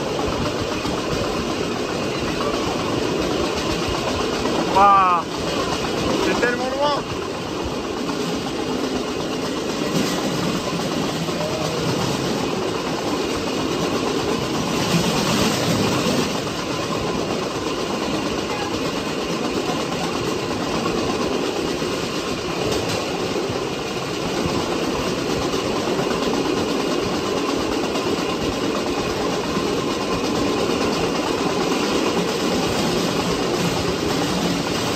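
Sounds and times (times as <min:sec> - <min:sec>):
steel wheels rolling on rails: 0:00.0 - 0:34.9.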